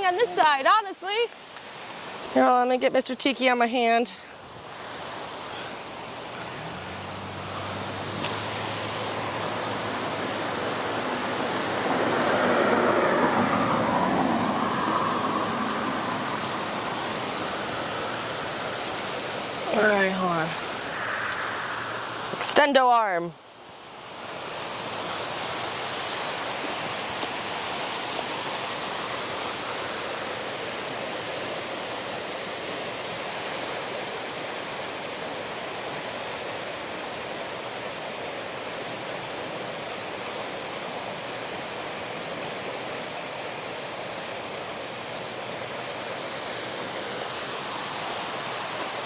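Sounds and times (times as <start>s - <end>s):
flooded river rushing: 0.0s - 49.0s.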